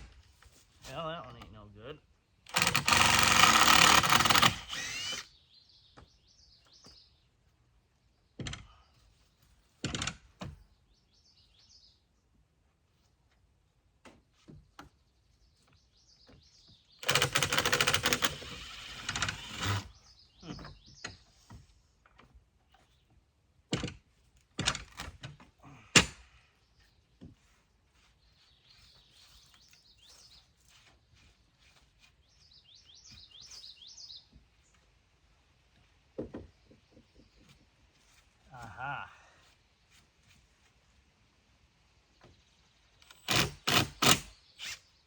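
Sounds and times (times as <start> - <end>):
faint birds chirping: 0.0 - 24.4, 25.4 - 45.0.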